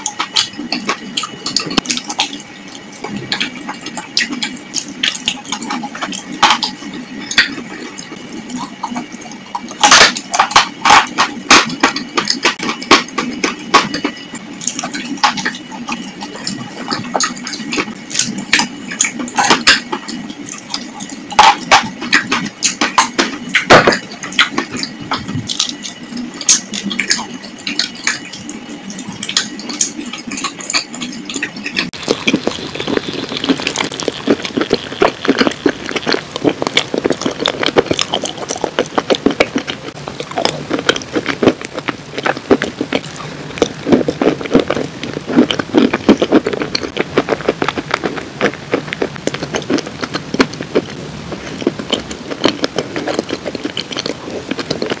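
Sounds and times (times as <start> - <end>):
wet chewing mouth sounds: 0.0 - 55.0.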